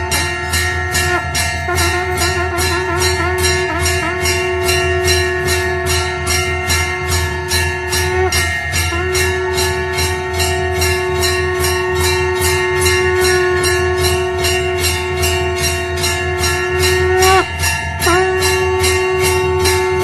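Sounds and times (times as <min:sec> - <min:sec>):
long held bending tone: 0:00.0 - 0:20.0
temple bells struck rapidly: 0:00.0 - 0:20.0.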